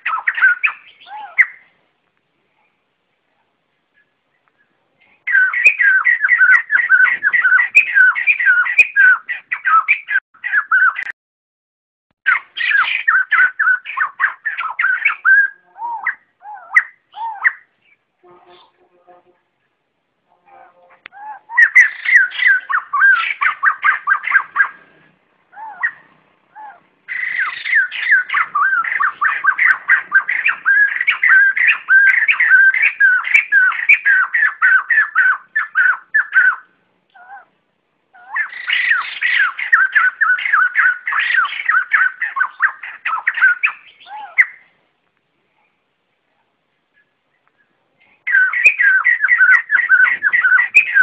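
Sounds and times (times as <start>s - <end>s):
birds rapid repeated calls: 0.0s - 1.8s, 3.9s - 11.1s, 12.2s - 18.8s, 21.1s - 44.7s, 48.2s - 51.0s.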